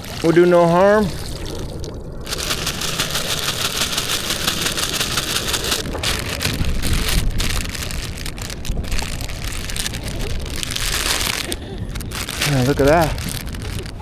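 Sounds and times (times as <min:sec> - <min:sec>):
water splashing and hissing: 0:00.0 - 0:14.0.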